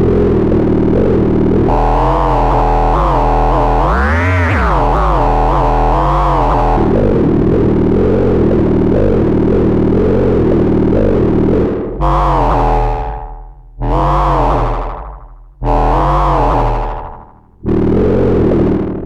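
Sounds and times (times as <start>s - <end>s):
buzzy distorted synthesizer tone: 0.0s - 19.0s
synthesizer notes: 0.0s - 19.0s.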